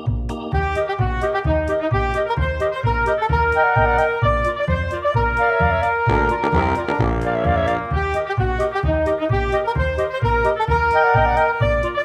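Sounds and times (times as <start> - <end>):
bright instrumental melody: 0.0 - 12.0.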